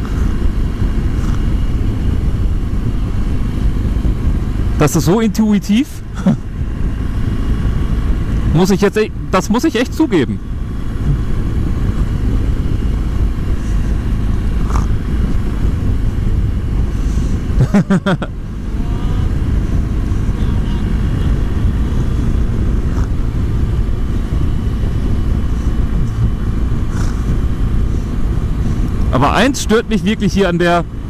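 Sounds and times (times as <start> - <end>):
motorcycle engine drone: 0.0 - 31.0
wind rushing over microphone: 0.0 - 31.0.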